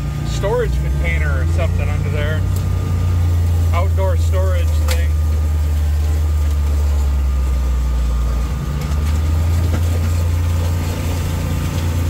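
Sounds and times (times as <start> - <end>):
tow-behind mower running: 0.0 - 12.0
utility vehicle engine running: 0.0 - 12.0.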